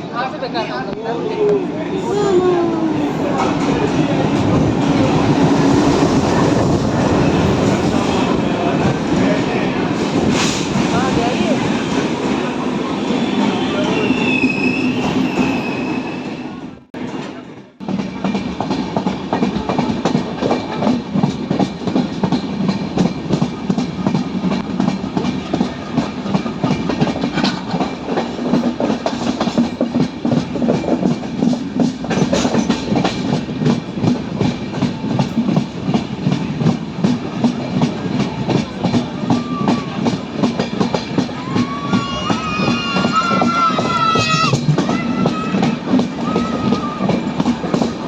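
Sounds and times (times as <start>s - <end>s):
diesel train clattering and chugging: 2.0s - 15.7s, 16.8s - 48.0s.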